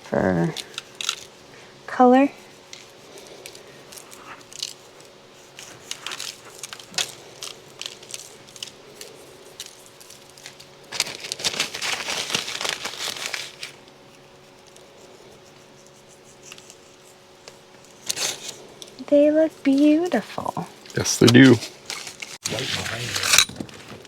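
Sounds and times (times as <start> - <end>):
crinkling and crackling: 2.6 - 15.2, 16.4 - 24.0.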